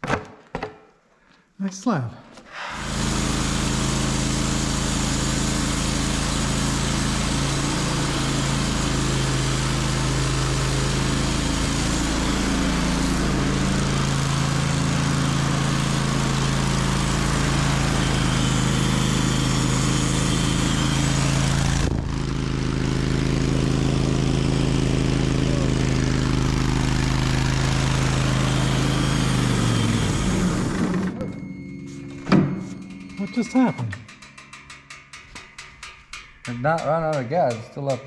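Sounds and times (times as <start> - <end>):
sawmill gasoline engine running: 2.6 - 38.0.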